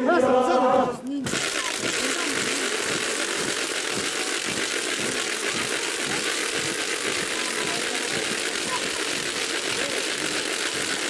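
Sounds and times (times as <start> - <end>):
cane stalks rattling: 1.2 - 11.0.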